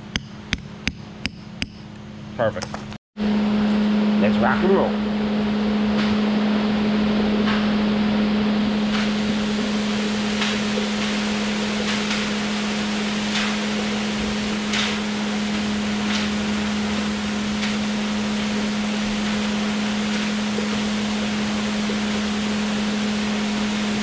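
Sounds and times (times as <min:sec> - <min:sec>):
concrete truck engine hum: 0:00.0 - 0:24.0.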